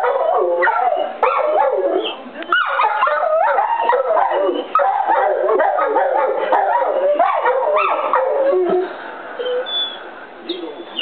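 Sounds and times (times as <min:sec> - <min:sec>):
dogs howling: 0:00.0 - 0:08.9.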